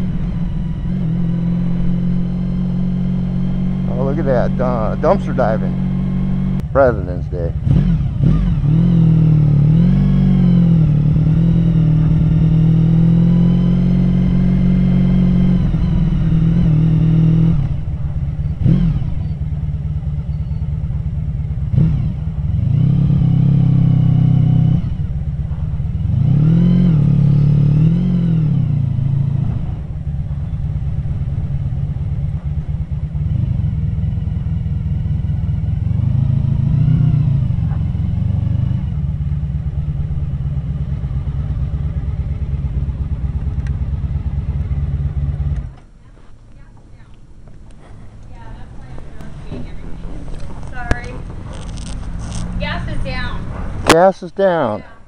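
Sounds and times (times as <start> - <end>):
motorcycle engine revving and idling: 0.0 - 54.9.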